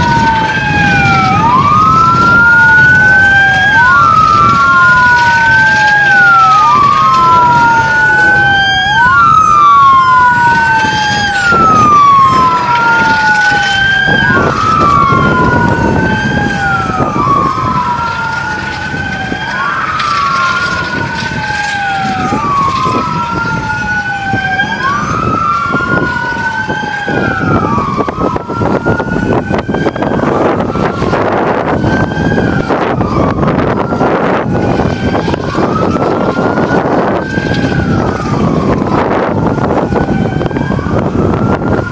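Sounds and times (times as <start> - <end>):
police sirens wailing: 0.0 - 41.9.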